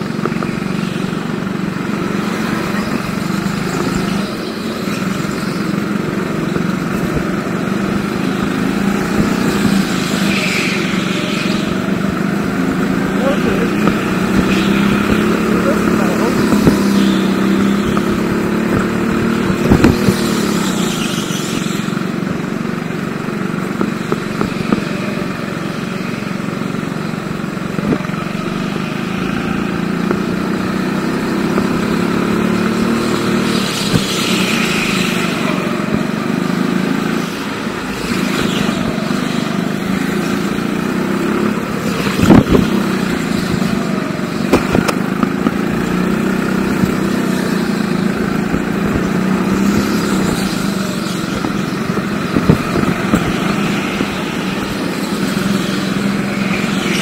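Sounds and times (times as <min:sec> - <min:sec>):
go-kart engine accelerating: 0:00.0 - 0:57.0.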